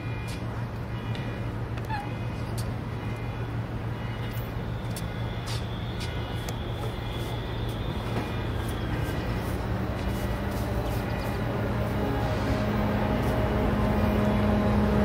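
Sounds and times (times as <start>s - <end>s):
distant train rumble: 2.8s - 15.0s.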